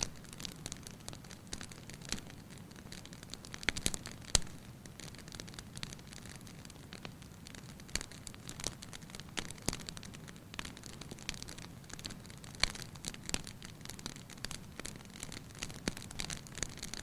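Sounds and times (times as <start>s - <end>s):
fireplace fire crackling: 0.0s - 17.0s
low steady fire hiss: 0.0s - 17.0s.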